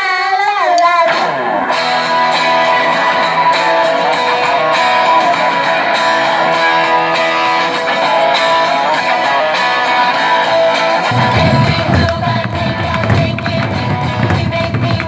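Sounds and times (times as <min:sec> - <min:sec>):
guitar music: 0:00.9 - 0:15.0.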